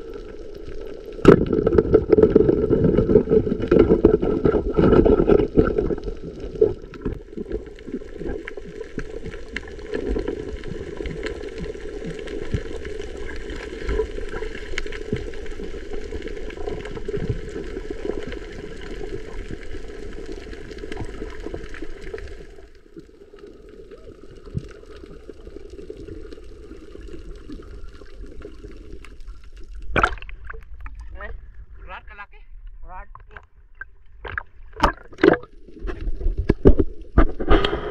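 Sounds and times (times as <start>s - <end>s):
faint underwater clicks and crackles: 0.0s - 37.9s
muffled underwater watery rush: 0.0s - 37.9s.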